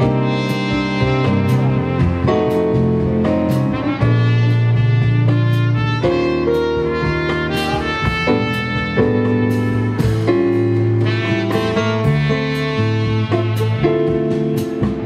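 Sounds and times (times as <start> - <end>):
electric bass: 0.0 - 15.0
electric piano: 0.0 - 15.0
trumpet melody: 0.0 - 15.0.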